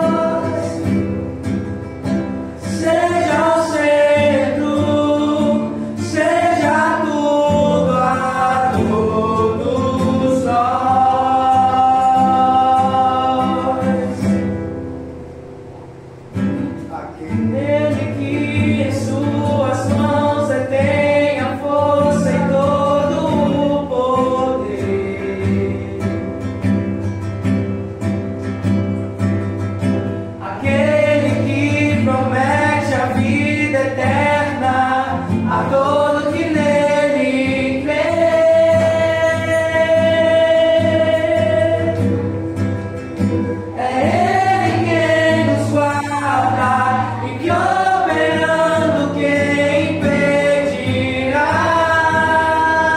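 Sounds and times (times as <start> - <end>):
people singing worship song: 0.0 - 14.9, 16.4 - 26.8, 30.3 - 52.9
acoustic guitar: 0.0 - 52.9.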